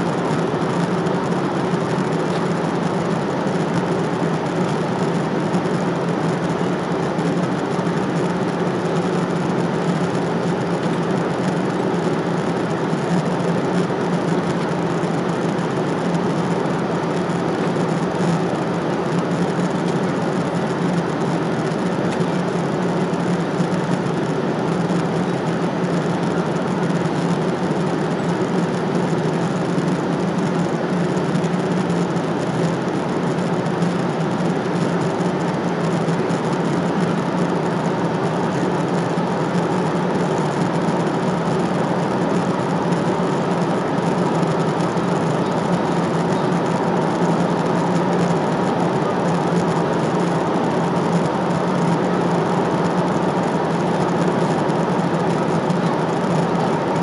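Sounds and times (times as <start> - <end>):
airliner engine and airflow rush: 0.0 - 57.0
constant low hum: 0.0 - 57.0.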